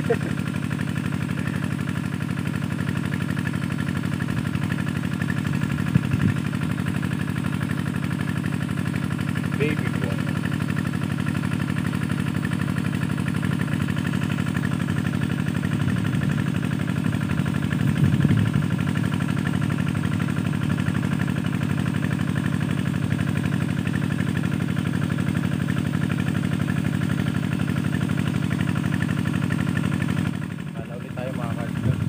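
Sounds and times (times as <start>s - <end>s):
engine-like drone: 0.0s - 32.0s.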